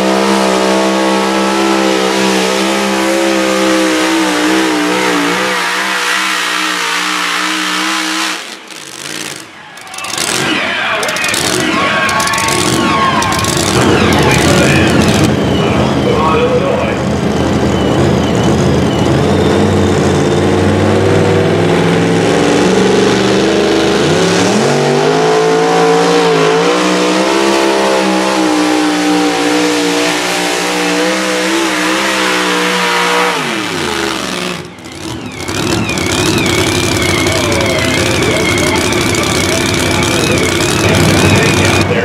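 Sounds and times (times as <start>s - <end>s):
lower engine note: 0.0s - 42.0s
supercharged truck engine at full throttle: 0.0s - 42.0s.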